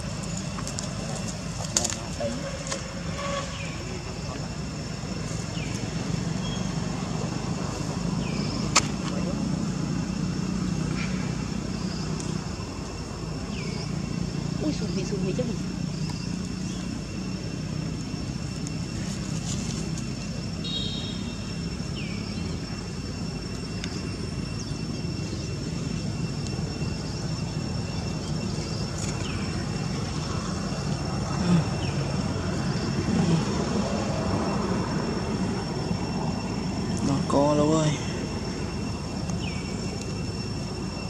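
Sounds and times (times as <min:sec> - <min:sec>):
high-pitched whine: 0:00.0 - 0:41.0
low outdoor rumble: 0:00.0 - 0:41.0.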